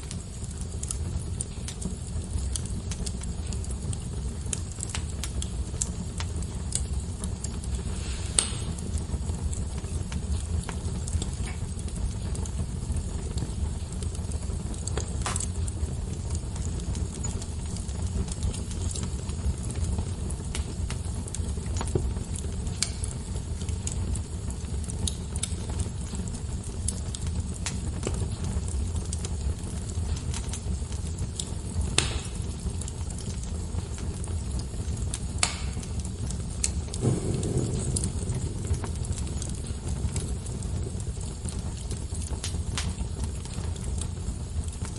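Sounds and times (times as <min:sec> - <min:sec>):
fire crackles and pops: 0:00.0 - 0:44.9
wood fire rumbling: 0:00.0 - 0:44.9.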